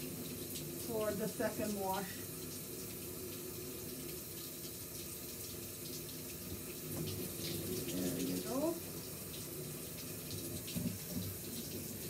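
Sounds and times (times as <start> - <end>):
water running from shower head: 0.0 - 12.0.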